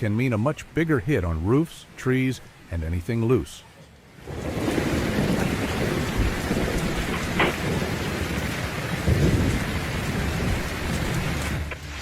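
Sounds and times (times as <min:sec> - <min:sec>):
rain rushing: 0:00.0 - 0:12.0
gusting wind: 0:00.7 - 0:12.0.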